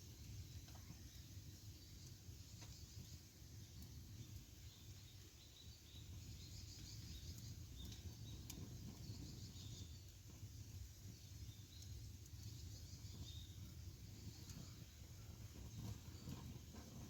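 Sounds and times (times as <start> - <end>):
campfire crackles: 0.0 - 17.0.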